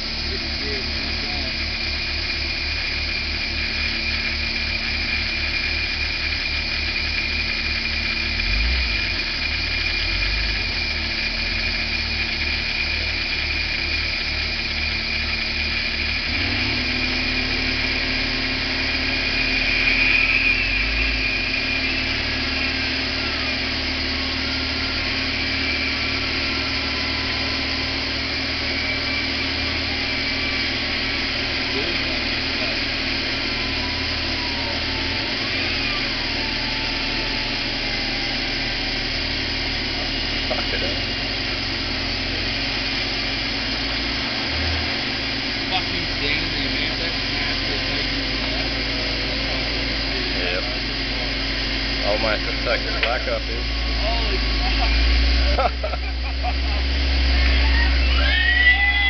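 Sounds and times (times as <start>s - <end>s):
excavator engine running: 0.0s - 59.0s
high whine: 0.0s - 59.0s.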